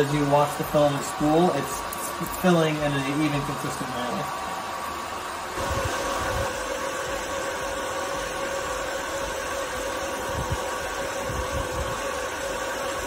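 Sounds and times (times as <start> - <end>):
machine hum and hiss: 0.0 - 13.0
whining tones: 0.0 - 13.0.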